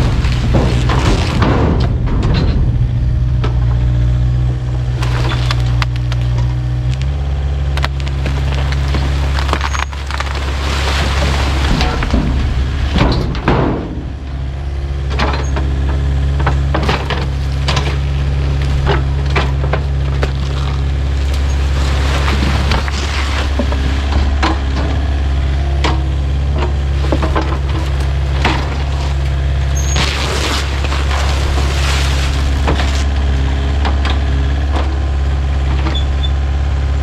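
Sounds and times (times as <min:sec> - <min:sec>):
debris knocking and cracking: 0:00.0 - 0:35.1
excavator diesel engine running: 0:00.0 - 0:37.0.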